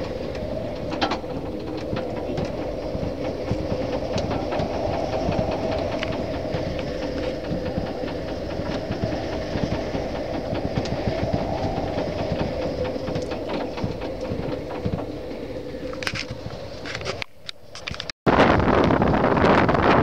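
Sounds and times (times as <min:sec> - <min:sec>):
wind rumbling and rattling boat: 0:00.0 - 0:20.0.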